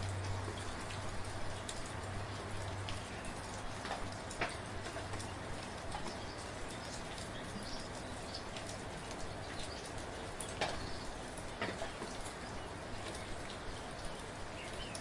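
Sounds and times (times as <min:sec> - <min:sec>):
raindrops tapping close by: 0:00.0 - 0:15.0
soft rain hiss: 0:00.0 - 0:15.0.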